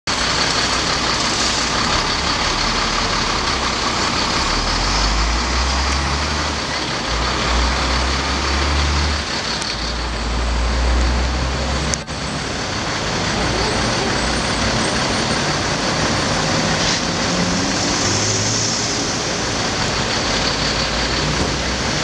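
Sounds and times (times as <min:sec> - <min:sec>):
street traffic: 0:00.0 - 0:22.0
heavy truck passing: 0:00.1 - 0:22.0.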